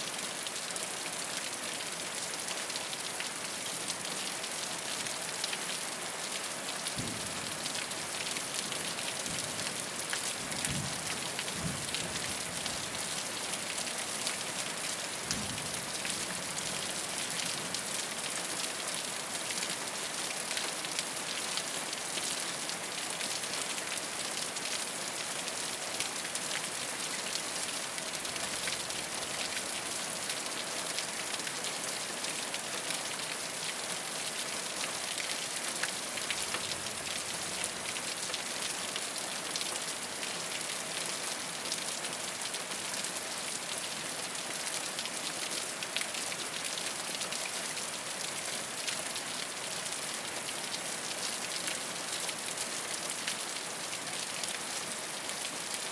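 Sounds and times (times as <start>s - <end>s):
rain on a rooftop: 0.0s - 55.9s.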